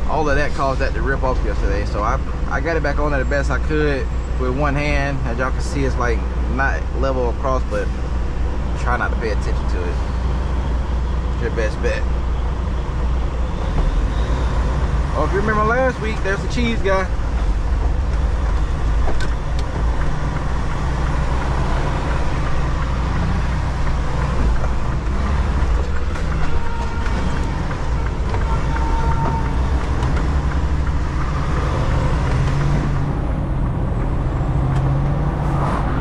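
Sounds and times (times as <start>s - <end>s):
road noise: 0.0s - 36.0s
truck diesel engine rumble: 0.0s - 36.0s.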